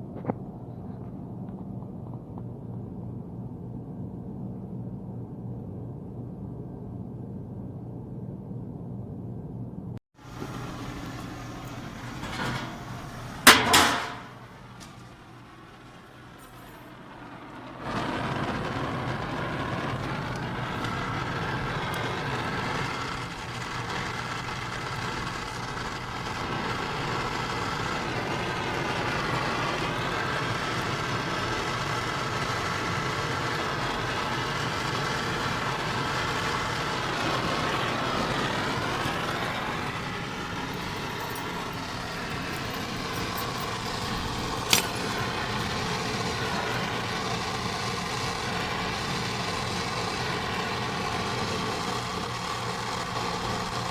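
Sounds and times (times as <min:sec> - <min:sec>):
torch flame hissing: 0:10.1 - 0:53.9.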